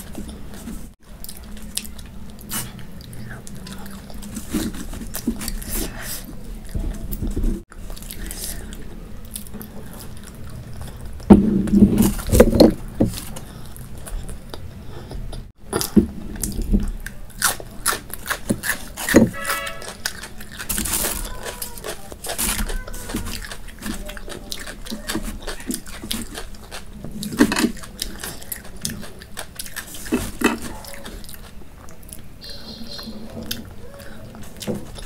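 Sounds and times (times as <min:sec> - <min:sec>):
chewing food: 0:00.0 - 0:35.0.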